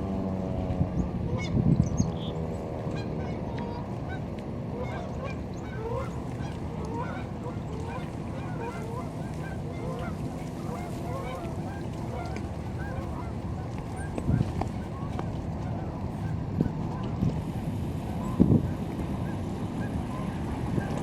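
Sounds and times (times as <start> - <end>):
low background rumble: 0.0 - 21.0
geese honking: 1.3 - 1.6, 2.2 - 17.3, 18.0 - 21.0.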